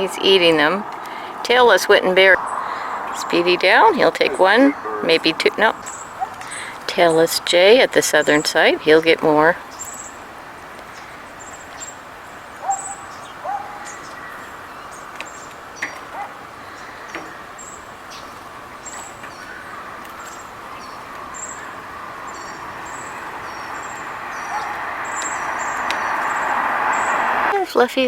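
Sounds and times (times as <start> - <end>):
small birds chirping: 0.0 - 27.5
steady background rush: 0.0 - 27.6
lower bird calls: 0.6 - 27.5.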